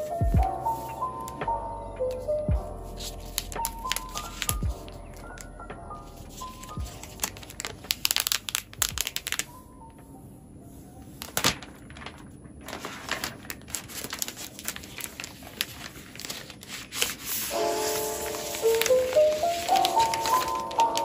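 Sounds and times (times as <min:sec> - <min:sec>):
plastic film crinkling: 0:02.1 - 0:09.9, 0:11.0 - 0:21.0.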